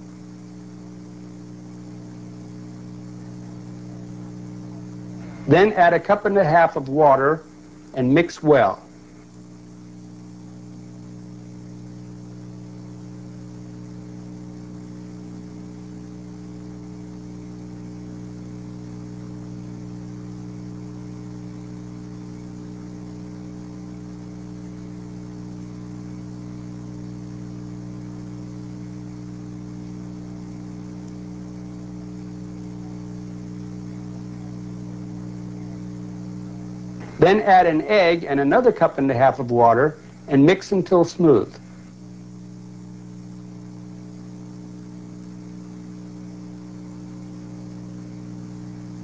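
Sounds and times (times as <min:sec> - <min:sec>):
electrical hum: 0:00.0 - 0:49.0
low hiss: 0:00.0 - 0:49.0.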